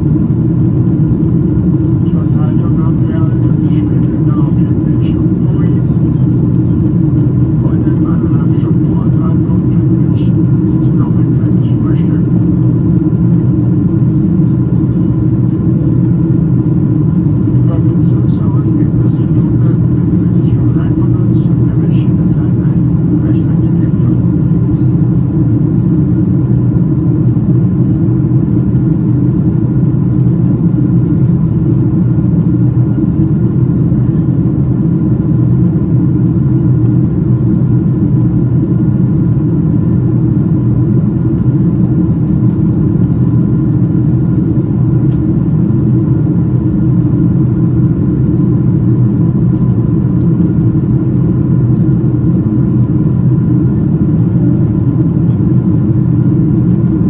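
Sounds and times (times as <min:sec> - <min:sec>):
airliner cabin engine drone: 0:00.0 - 0:57.0
faint steady whine: 0:00.0 - 0:57.0.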